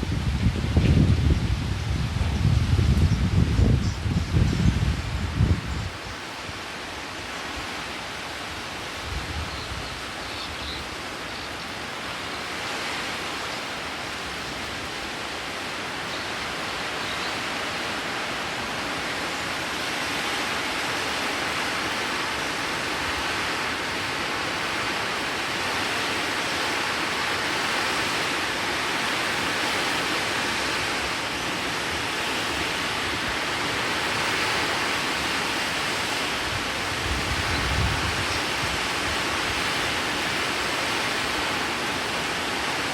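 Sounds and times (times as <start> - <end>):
wind gusts buffeting microphone: 0.0 - 10.2, 17.6 - 42.9
heavy rain hissing: 0.0 - 42.9.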